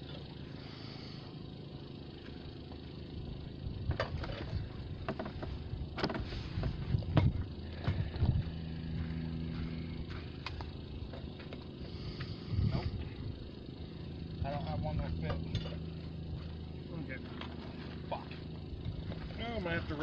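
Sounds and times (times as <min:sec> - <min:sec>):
low engine rumble: 0:00.0 - 0:20.0.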